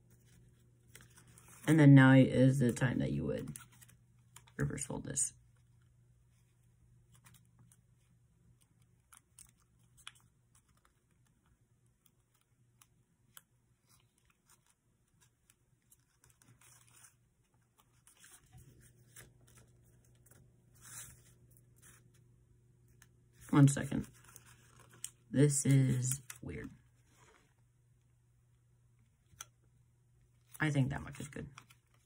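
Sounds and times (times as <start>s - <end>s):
paper crackling and rustling: 0.0s - 1.7s, 3.4s - 4.7s, 6.3s - 27.6s, 30.4s - 32.0s.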